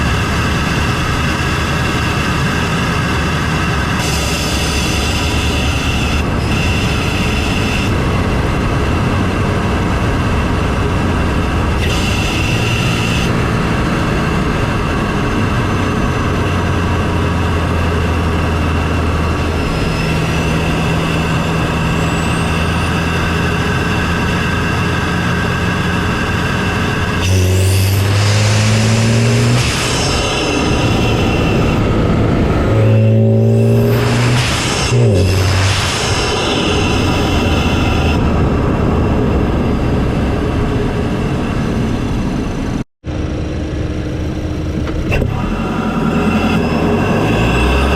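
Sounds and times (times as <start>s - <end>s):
engine intake drone: 0.0s - 47.9s.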